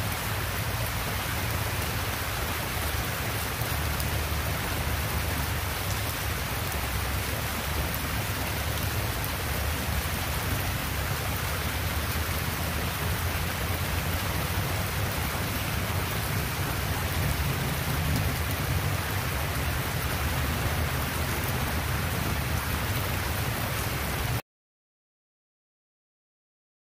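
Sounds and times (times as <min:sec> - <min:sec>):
rain on foliage: 0:00.0 - 0:24.4.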